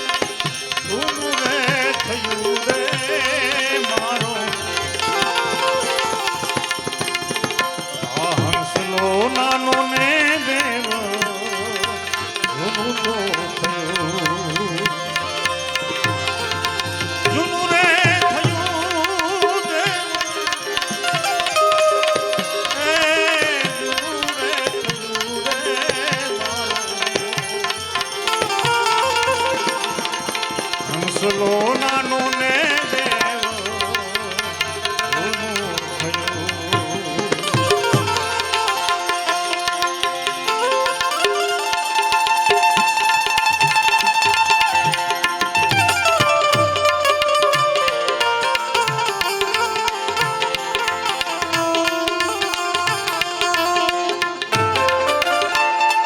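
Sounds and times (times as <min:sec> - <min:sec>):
tabla beat: 0:00.0 - 0:56.0.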